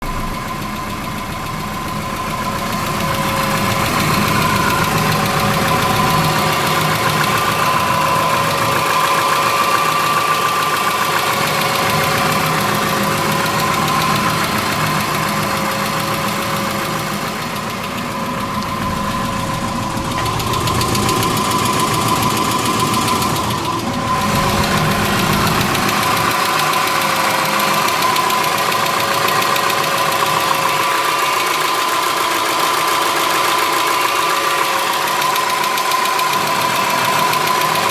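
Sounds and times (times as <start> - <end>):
car engine idling: 0.0 - 37.9
engine ticking: 0.0 - 37.9.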